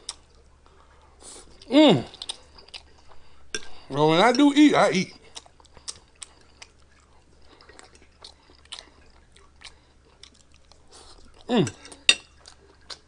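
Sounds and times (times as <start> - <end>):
person chewing food: 0.0 - 4.4, 5.1 - 13.0.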